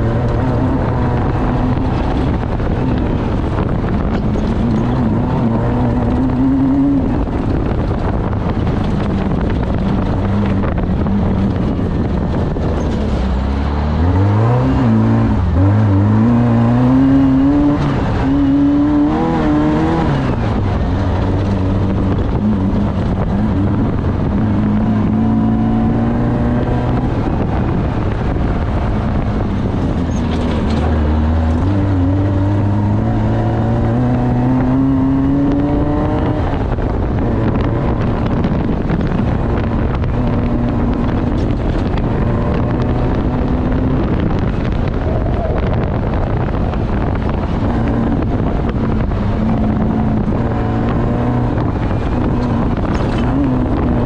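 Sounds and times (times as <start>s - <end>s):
race vehicle engine revving: 0.0s - 54.0s.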